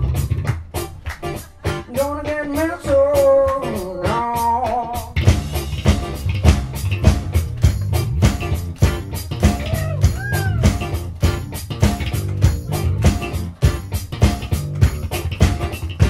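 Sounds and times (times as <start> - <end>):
bass line: 0.0 - 16.0
drum beat: 0.0 - 16.0
electric guitar playing blues: 0.0 - 16.0.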